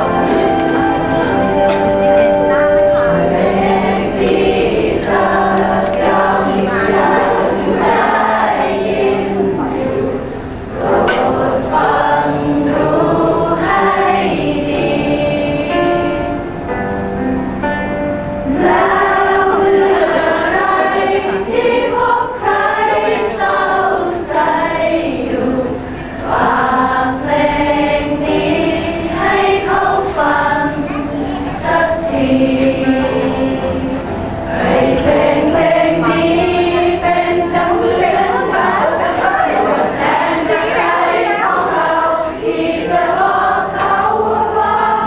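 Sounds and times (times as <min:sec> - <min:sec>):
group of people singing: 0:00.0 - 0:16.6, 0:18.4 - 0:45.0.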